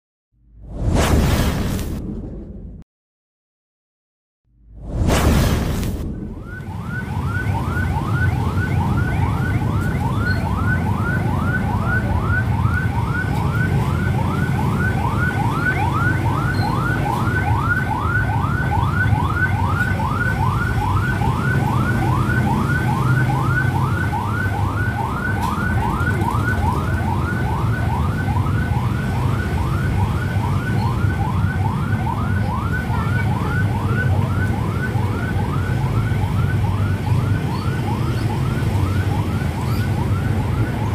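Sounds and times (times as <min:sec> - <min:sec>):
siren yelping: 0:05.7 - 0:40.9.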